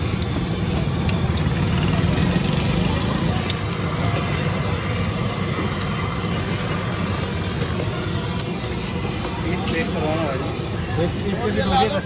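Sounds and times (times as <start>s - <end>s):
gas burner roaring: 0.0s - 12.0s
oil sizzling while deep-frying: 0.0s - 12.0s.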